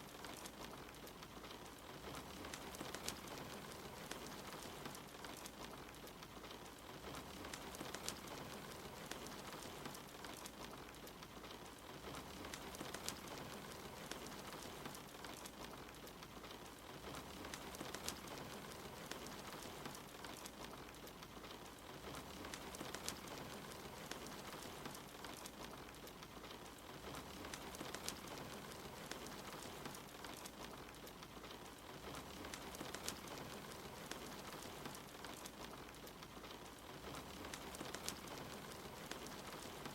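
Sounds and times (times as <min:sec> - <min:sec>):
soft rain hiss: 0:00.0 - 0:39.9
wood fire popping and crackling: 0:00.0 - 0:39.9.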